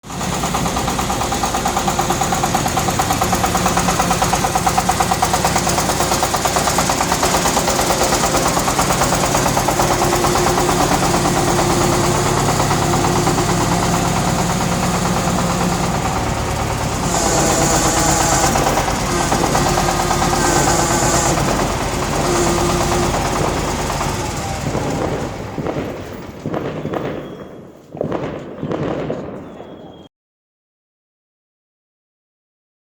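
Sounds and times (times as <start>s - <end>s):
rattly machine engine running: 0.0s - 27.2s.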